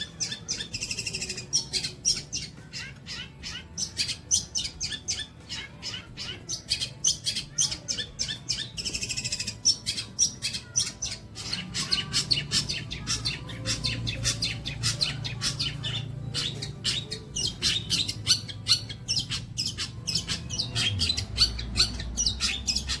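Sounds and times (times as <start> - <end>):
bird singing chirps and harsh notes: 0.0 - 23.0.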